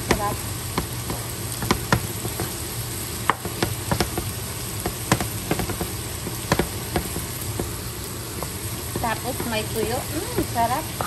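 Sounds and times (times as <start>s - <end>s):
rice sizzling in a pan: 0.0s - 11.0s.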